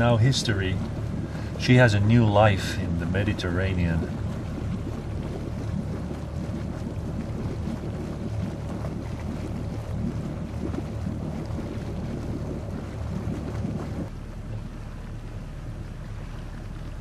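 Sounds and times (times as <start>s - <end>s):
boat engine drone: 0.0s - 17.0s
wind buffeting microphone: 0.0s - 17.0s.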